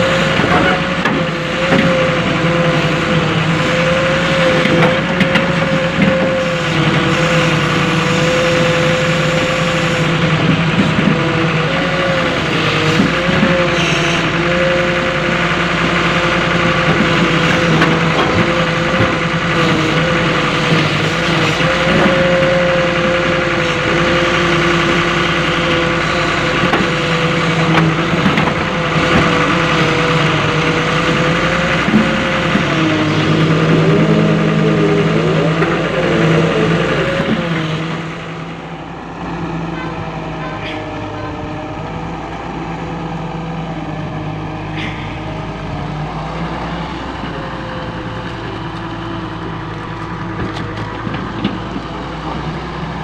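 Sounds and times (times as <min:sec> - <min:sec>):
excavator diesel engine running: 0:00.0 - 0:53.0
steady machine whine: 0:00.0 - 0:53.0.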